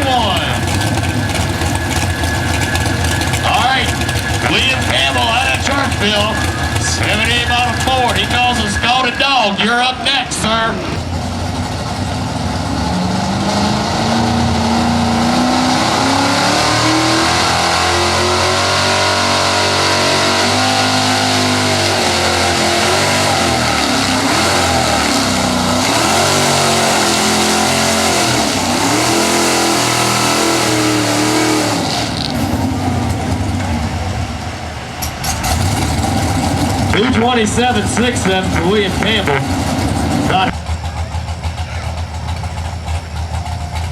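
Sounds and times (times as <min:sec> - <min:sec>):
truck engine at full throttle: 0:00.0 - 0:43.9.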